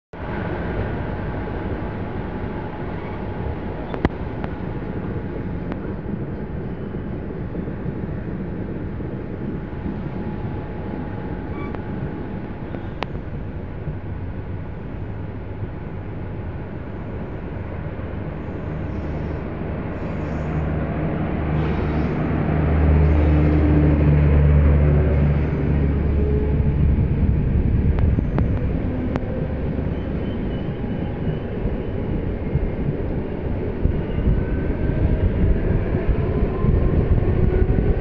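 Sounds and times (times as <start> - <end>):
train rumble on rails: 0.1 - 38.0.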